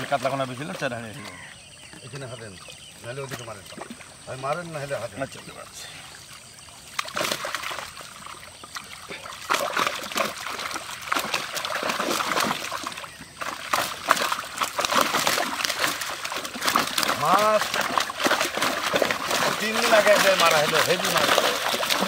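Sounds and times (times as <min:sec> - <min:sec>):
fish splashing in shallow water: 0:00.0 - 0:22.0.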